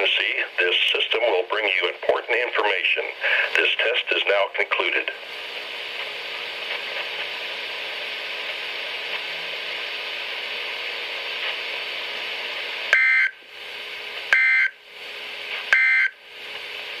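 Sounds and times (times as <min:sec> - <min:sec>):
radio hiss: 0:00.0 - 0:17.0.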